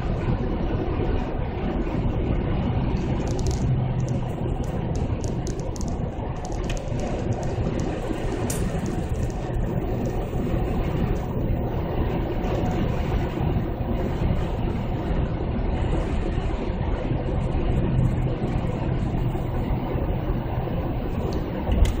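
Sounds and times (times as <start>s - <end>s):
deep exhaust rumble: 0.0s - 22.0s.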